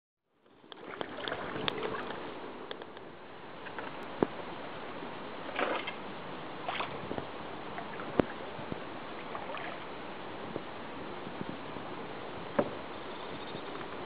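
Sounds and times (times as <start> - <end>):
river water flowing: 0.5 - 14.0.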